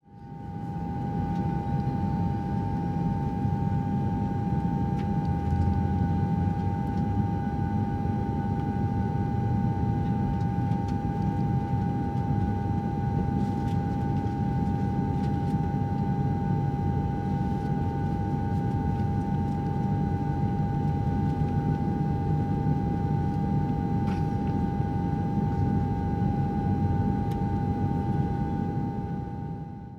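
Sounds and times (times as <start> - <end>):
airplane cabin low rumble: 0.1 - 29.9.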